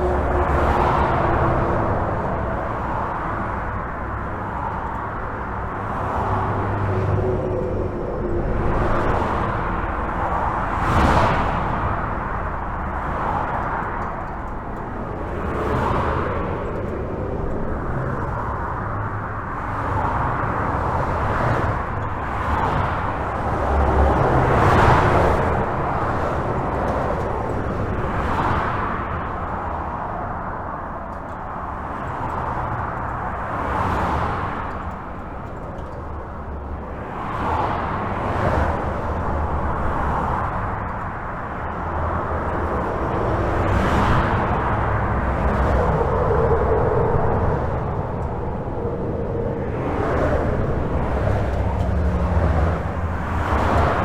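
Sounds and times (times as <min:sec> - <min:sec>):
highway traffic rushing: 0:00.0 - 0:54.0.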